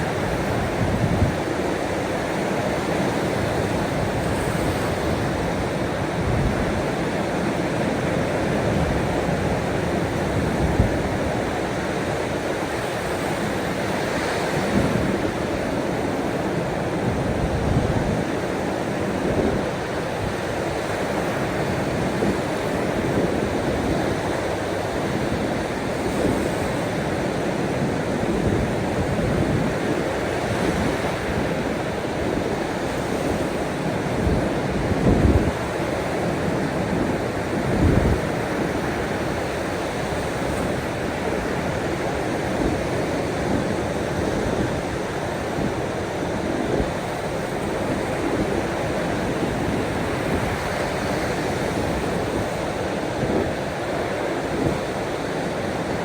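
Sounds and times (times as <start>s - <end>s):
sea waves washing onto shore: 0.0s - 56.0s
wind buffeting microphone: 0.0s - 56.0s.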